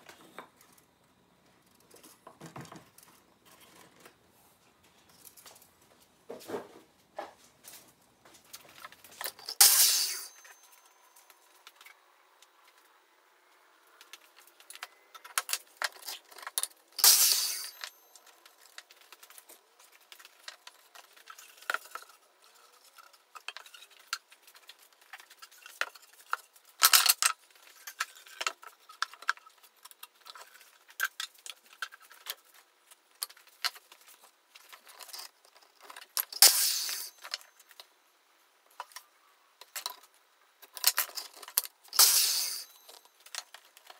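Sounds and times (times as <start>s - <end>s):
clicks and clatters of wood and tools: 0.0s - 38.0s, 38.6s - 43.9s.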